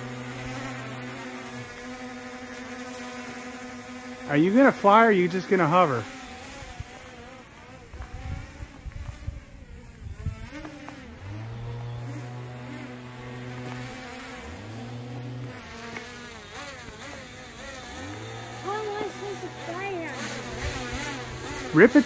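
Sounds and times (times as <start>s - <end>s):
quadcopter motors buzzing: 0.0s - 22.0s.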